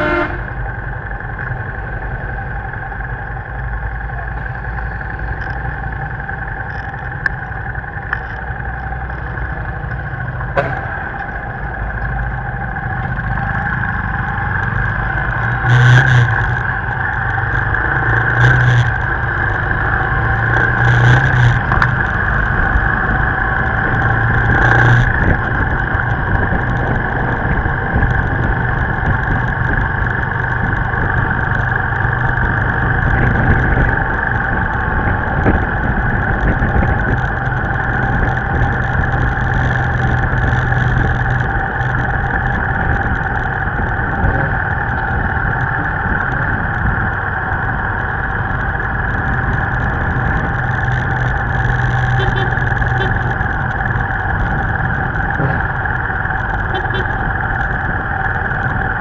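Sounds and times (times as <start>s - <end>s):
motorbike engine running: 0.0s - 59.0s
road and wind noise: 0.0s - 59.0s.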